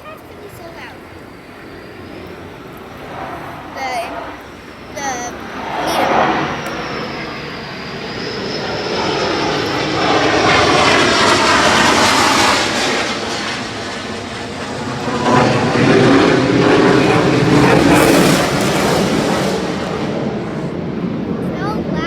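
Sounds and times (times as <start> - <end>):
faint high whine: 0.0 - 21.7
aircraft engine passing overhead: 0.0 - 22.0.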